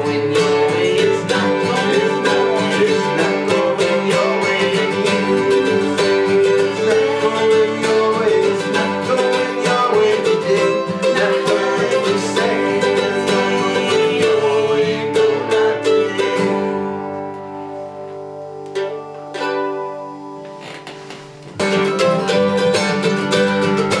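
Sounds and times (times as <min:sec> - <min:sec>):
country jazz song on guitar: 0:00.0 - 0:24.0.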